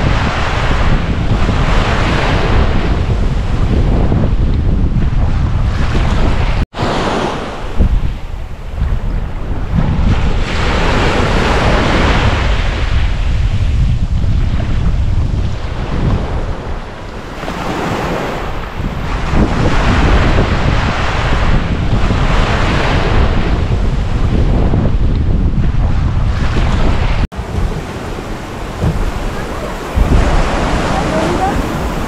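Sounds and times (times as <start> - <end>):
ocean waves breaking on beach: 0.0 - 32.0
wind buffeting microphone: 0.0 - 32.0.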